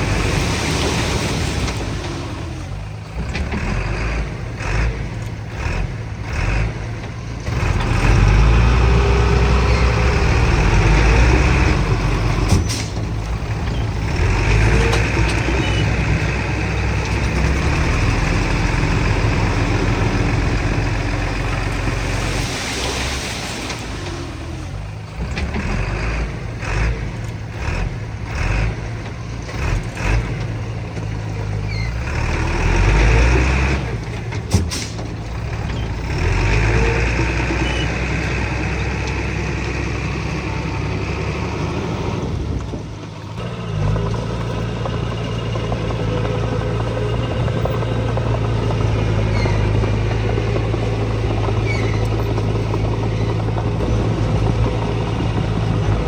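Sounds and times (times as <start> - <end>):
diesel machinery engines under load: 0.0 - 56.0.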